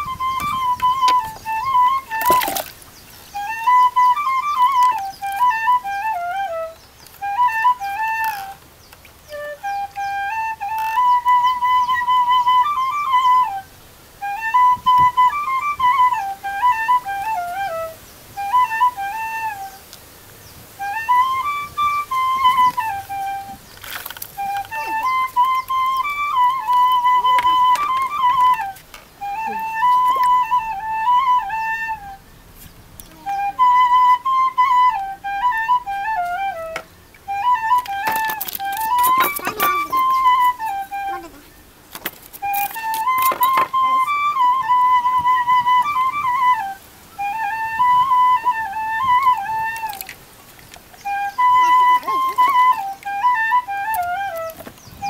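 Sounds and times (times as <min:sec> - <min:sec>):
solo flute melody: 0:00.0 - 0:55.0.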